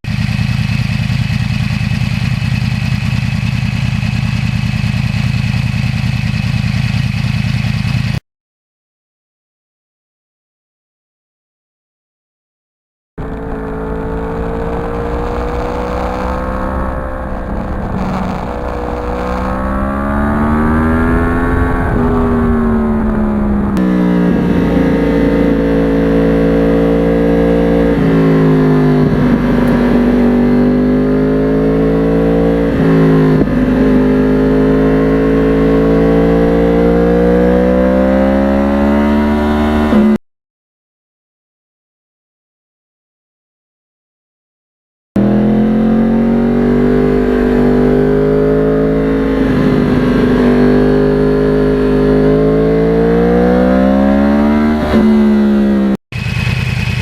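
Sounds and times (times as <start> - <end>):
motorcycle engine running: 0.0 - 8.2, 13.2 - 40.2, 45.2 - 57.0.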